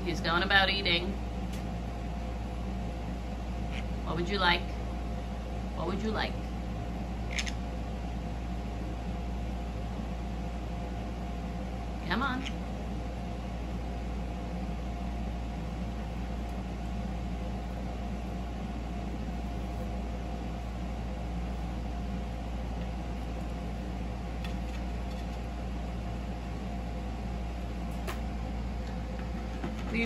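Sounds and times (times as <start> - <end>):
mechanical hum with hiss: 0.0 - 30.0.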